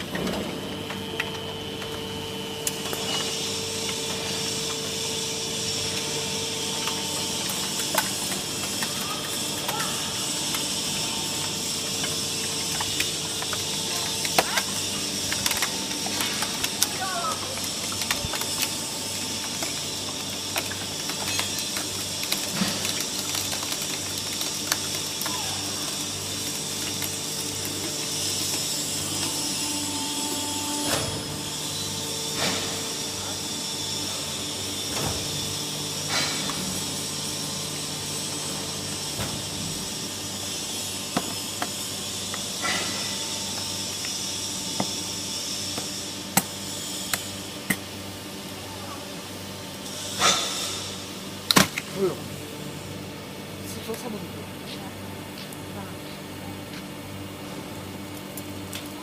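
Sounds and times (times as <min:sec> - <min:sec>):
can baler machine hum: 0:00.0 - 0:59.0.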